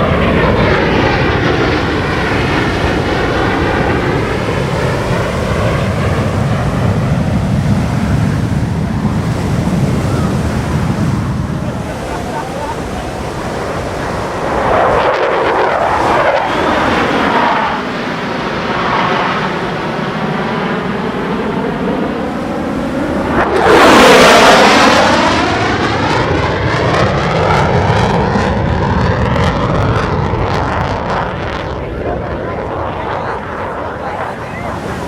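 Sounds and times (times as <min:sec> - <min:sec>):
fighter jets flying past: 0:00.0 - 0:35.0.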